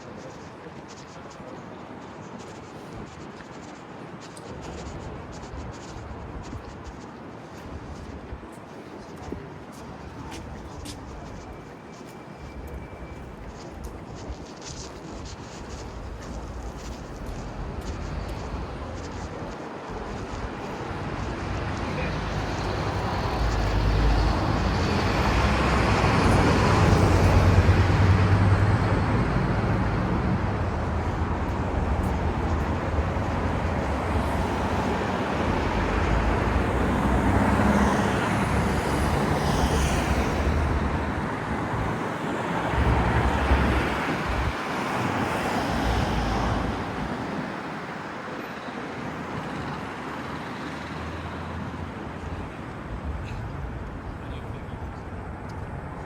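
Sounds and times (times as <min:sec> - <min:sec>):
road traffic driving past: 0:02.5 - 0:56.0.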